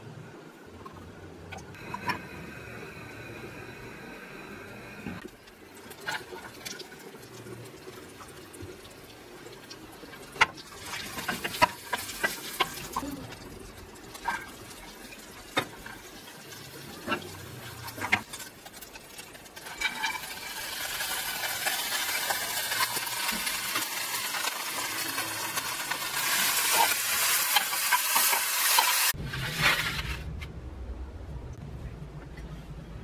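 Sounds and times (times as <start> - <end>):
butter sizzling: 1.8 - 29.2.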